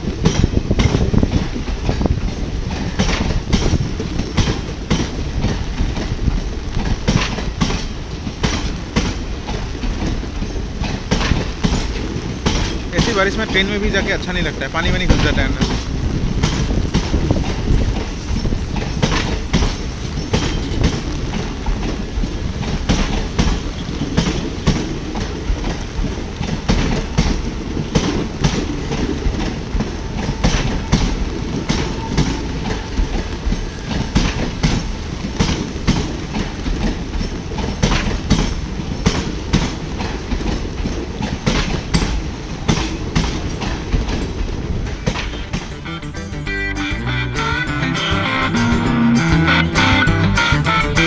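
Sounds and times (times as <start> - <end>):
train wheels clattering over rail joints: 0.0 - 46.0
train rumble: 0.0 - 51.0.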